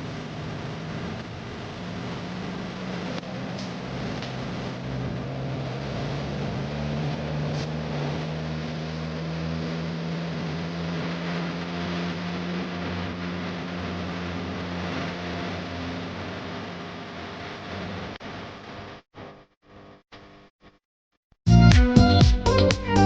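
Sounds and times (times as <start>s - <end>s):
vehicle engine running at low revs: 0.0s - 19.0s.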